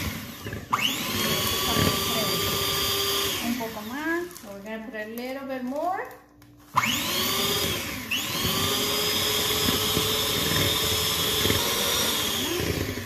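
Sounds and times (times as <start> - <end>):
electric hand mixer whirring: 0.0 - 4.6, 6.7 - 13.0.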